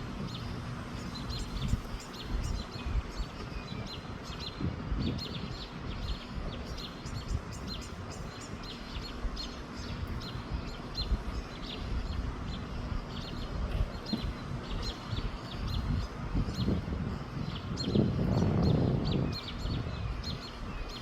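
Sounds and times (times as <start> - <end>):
small birds chirping: 0.0 - 21.0
wind on microphone: 0.0 - 21.0.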